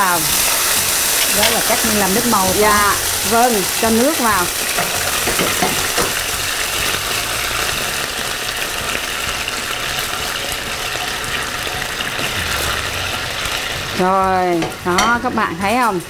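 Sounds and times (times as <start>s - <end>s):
caramel sizzling and crackling: 0.0s - 16.0s.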